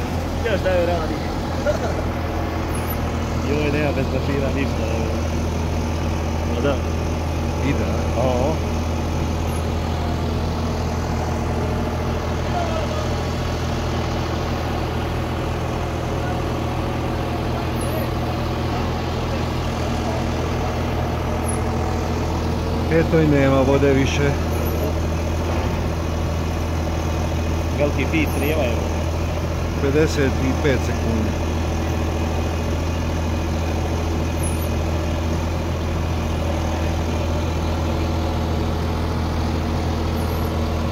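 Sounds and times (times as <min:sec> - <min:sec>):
pump engine humming: 0:00.0 - 0:40.9.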